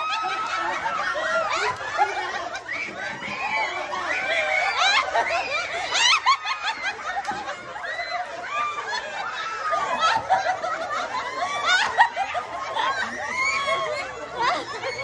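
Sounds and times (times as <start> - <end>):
group of people laughing: 0.0 - 15.0.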